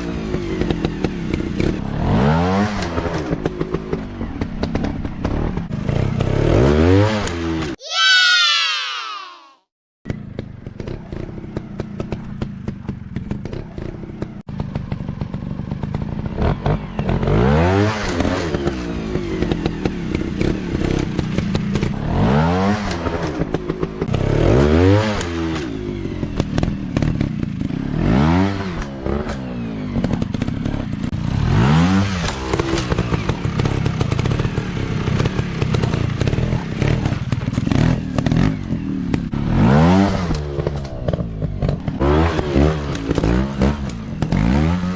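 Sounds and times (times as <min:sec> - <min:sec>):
dirt bike engine revving: 0:00.0 - 0:07.6, 0:16.2 - 0:44.9.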